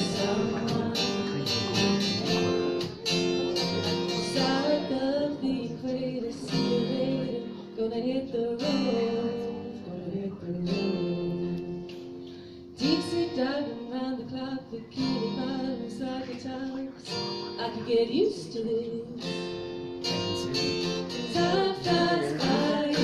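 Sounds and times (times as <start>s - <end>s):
acoustic guitar strumming: 0.0s - 23.0s
person singing long notes: 3.6s - 12.0s, 12.8s - 23.0s.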